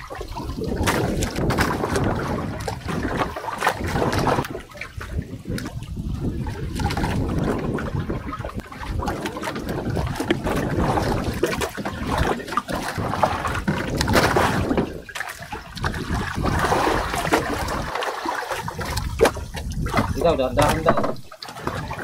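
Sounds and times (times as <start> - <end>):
water lapping against boat hull: 0.0 - 22.0
wind rumbling on microphone: 0.0 - 22.0
gear knocking on boat: 0.7 - 18.0, 18.6 - 22.0.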